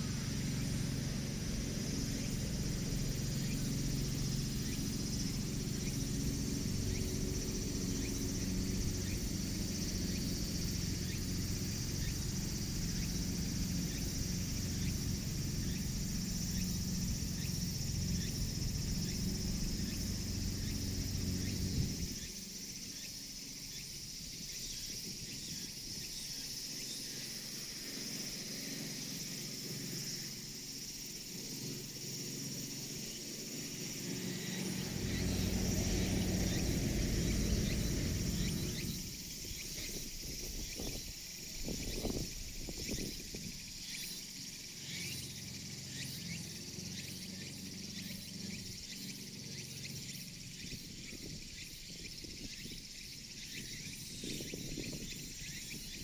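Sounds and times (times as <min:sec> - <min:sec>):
insects chirping: 0:00.0 - 0:56.0
low mechanical hum: 0:00.0 - 0:56.0.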